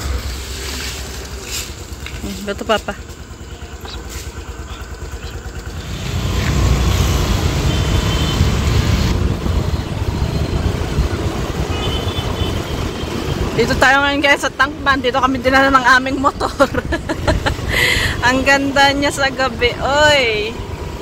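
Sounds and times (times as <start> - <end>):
motor scooter engine: 0.0 - 21.0
road traffic: 0.0 - 21.0.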